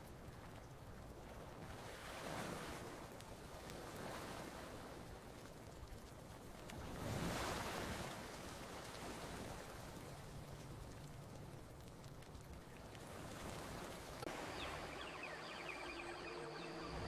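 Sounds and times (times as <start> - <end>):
campfire crackles: 0.0 - 17.0
ocean waves on a beach: 0.0 - 17.0.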